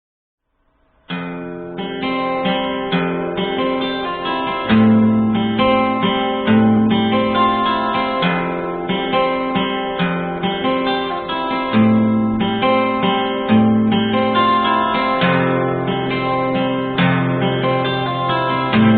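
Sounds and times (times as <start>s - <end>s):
acoustic guitar chords: 0.9s - 18.9s.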